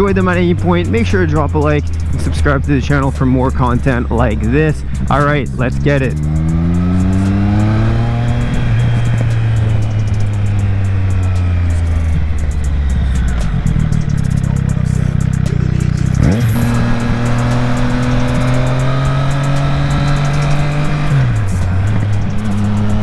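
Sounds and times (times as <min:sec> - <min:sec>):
gear change: 0:00.0 - 0:23.0
motorcycle engine running: 0:00.0 - 0:23.0.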